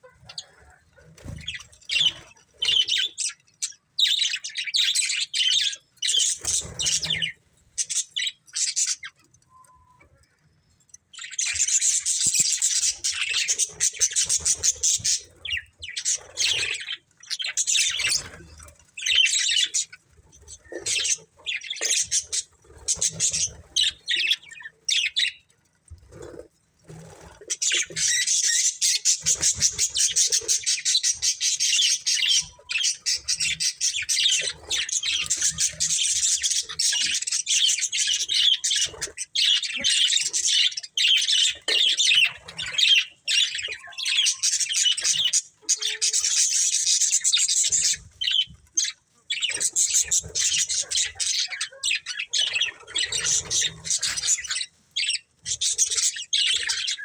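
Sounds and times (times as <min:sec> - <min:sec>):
budgerigars chattering and chirping: 0:00.0 - 0:09.3, 0:11.0 - 0:25.5, 0:26.1 - 0:57.0.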